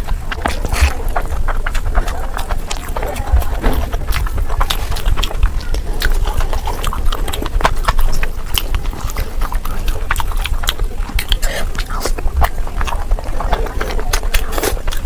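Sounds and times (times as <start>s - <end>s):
chewing and lip-smacking: 0.0s - 15.0s
wet mouth clicks: 0.0s - 15.0s.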